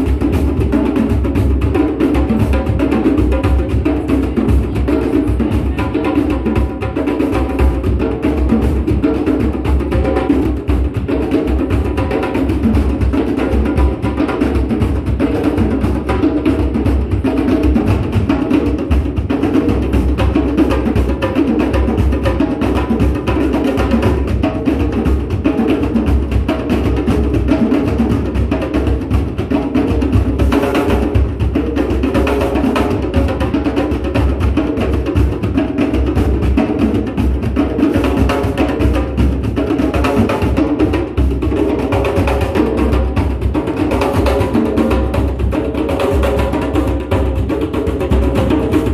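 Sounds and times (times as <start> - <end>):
hand drums playing polyrhythm: 0.0 - 48.9.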